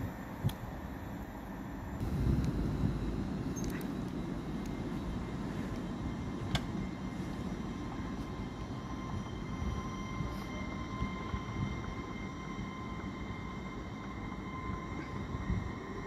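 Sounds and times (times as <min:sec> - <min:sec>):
faint high whine: 0:00.0 - 0:16.0
train low rumble: 0:00.0 - 0:16.0.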